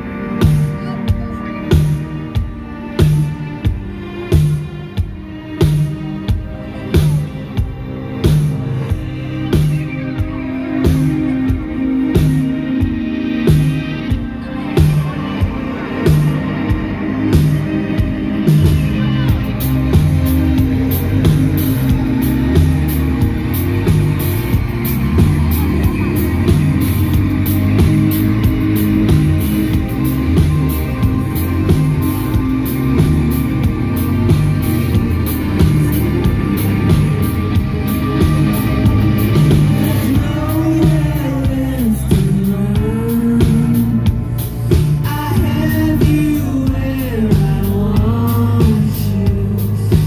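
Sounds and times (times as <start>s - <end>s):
bass line: 0.0s - 50.0s
drums: 0.0s - 50.0s
guitars: 0.0s - 50.0s
keyboard: 0.0s - 50.0s.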